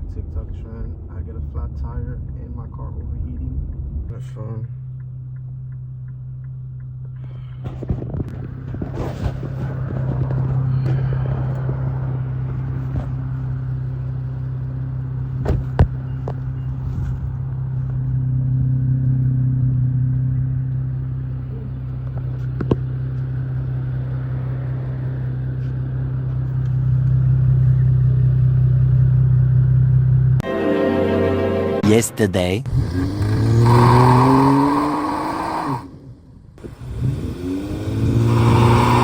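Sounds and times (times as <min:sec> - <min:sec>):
car engine droning: 0:00.0 - 0:30.4, 0:32.6 - 0:39.0.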